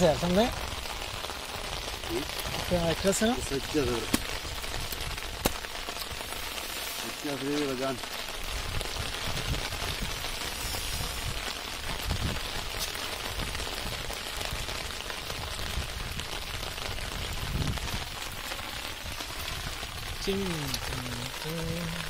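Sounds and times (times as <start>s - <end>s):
rain falling on water: 0.0s - 22.0s.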